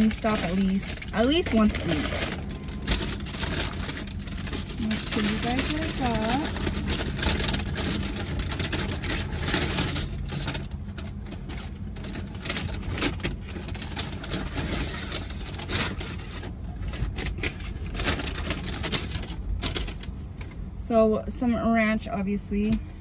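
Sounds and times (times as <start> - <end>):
paper bag rustling and crinkling: 0.0 - 20.6
steady low rumble: 0.0 - 23.0.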